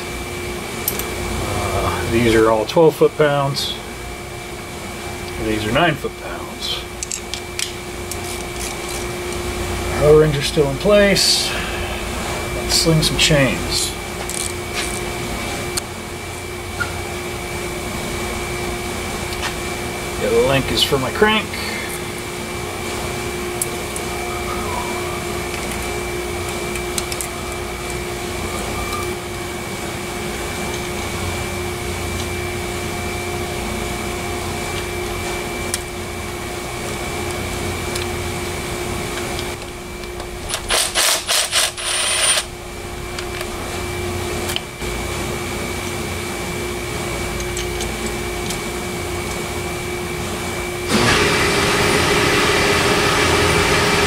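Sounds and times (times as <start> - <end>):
workshop machine hum: 0.0 - 54.0.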